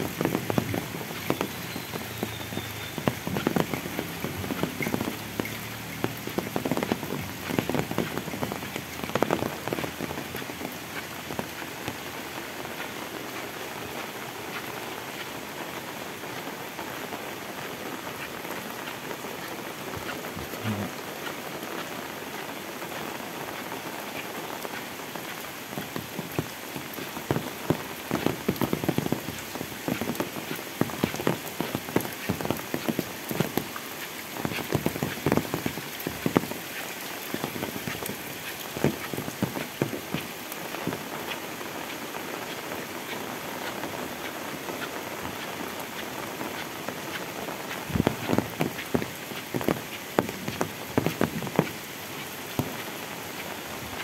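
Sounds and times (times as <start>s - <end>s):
heavy rain falling: 0.0s - 54.0s
raindrops striking close by: 0.0s - 54.0s.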